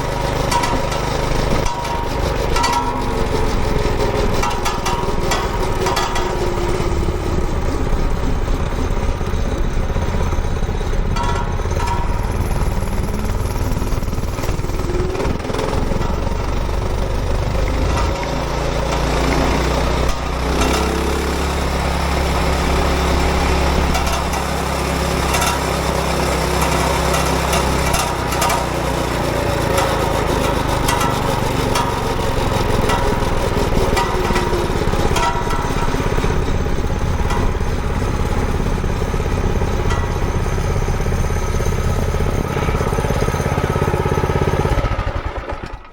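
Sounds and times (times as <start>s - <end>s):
rattling clicks: 0.0s - 43.4s
minibike engine running: 0.0s - 45.9s.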